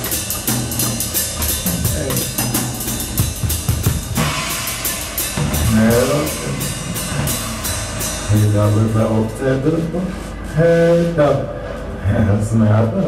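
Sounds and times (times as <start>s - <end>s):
bass drum: 0.0s - 10.7s
cymbal strokes: 0.0s - 11.8s.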